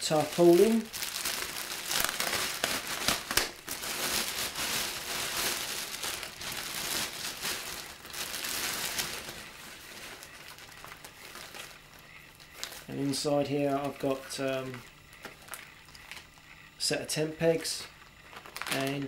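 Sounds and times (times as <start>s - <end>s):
plastic bag crinkling: 0.0s - 16.8s, 17.5s - 19.0s.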